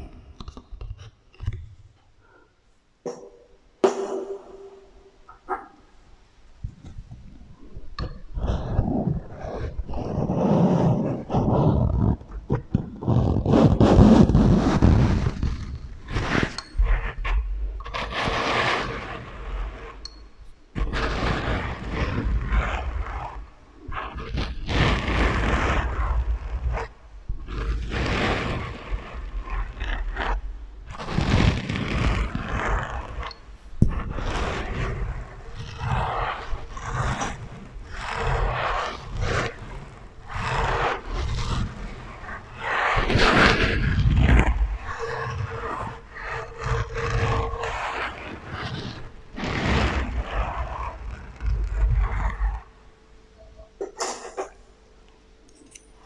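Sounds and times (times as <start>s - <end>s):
echoing scraping and rubbing: 0.0s - 54.6s.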